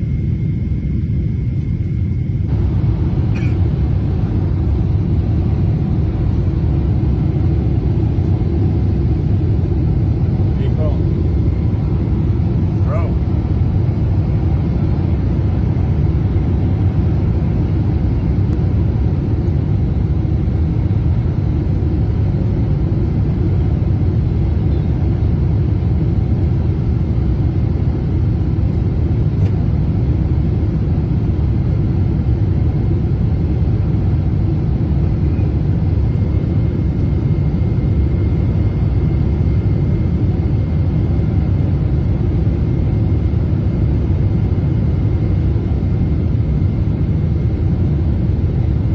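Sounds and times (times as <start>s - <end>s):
airliner engines rumbling: 0.0s - 48.9s.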